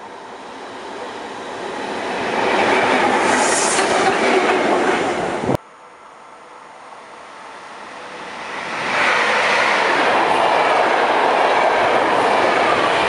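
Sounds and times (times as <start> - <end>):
train wheels on rails: 0.0 - 5.6, 7.0 - 13.0.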